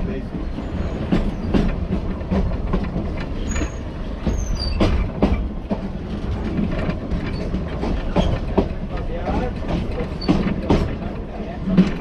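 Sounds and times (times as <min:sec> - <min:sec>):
train rumbling: 0:00.0 - 0:12.0
wheels clattering over rails: 0:00.4 - 0:12.0.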